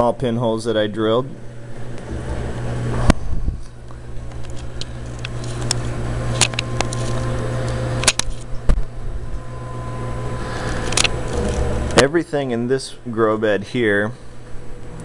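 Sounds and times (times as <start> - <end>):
water pump humming: 0.0 - 15.0.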